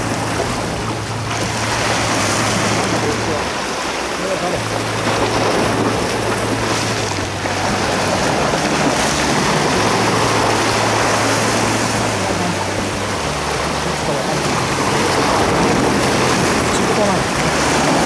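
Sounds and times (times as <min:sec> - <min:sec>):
surf washing against rocks: 0:00.0 - 0:18.0.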